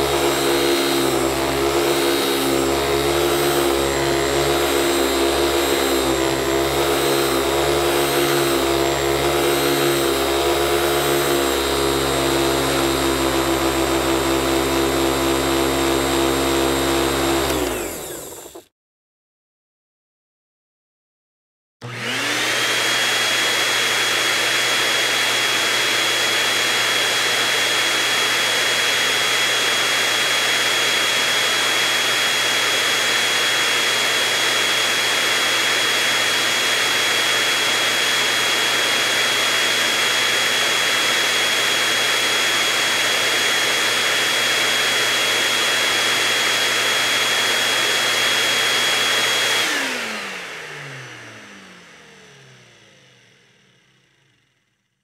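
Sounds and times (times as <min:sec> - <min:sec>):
vacuum cleaner motor whining: 0:00.0 - 0:18.7, 0:21.8 - 0:54.9.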